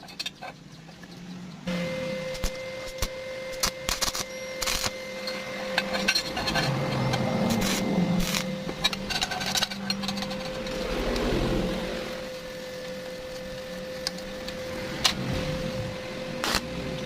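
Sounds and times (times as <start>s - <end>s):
electric arc welding: 1.7s - 17.0s.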